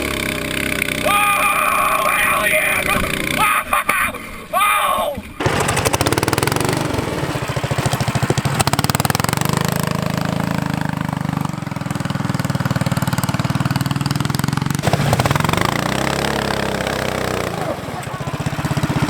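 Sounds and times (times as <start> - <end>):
go-kart engine running hard: 0.0 - 3.7, 5.4 - 19.0.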